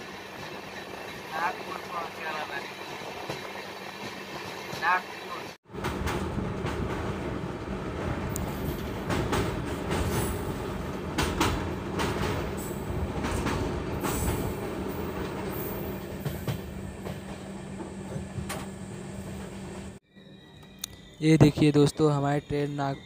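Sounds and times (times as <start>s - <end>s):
train coach rumble: 0.0s - 20.0s.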